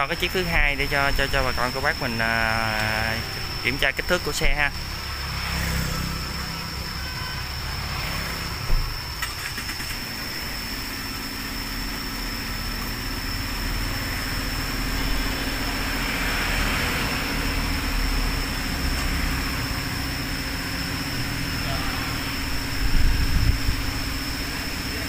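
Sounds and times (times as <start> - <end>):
motor hum: 0.0 - 25.0.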